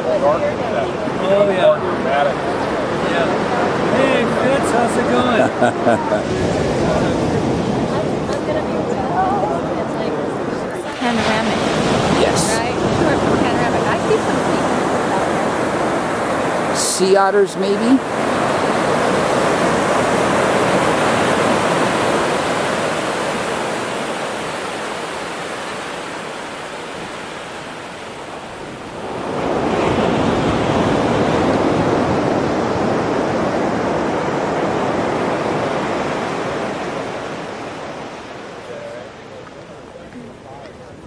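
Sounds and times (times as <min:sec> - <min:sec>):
ocean surf breaking: 0:00.0 - 0:41.0.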